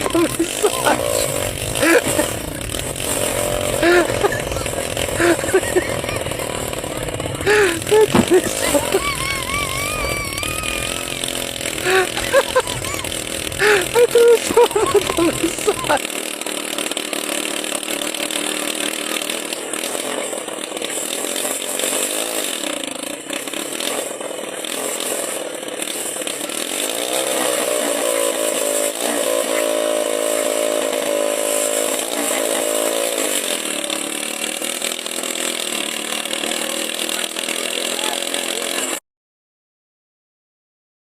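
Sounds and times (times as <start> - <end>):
small engine revving: 0.0 - 39.0.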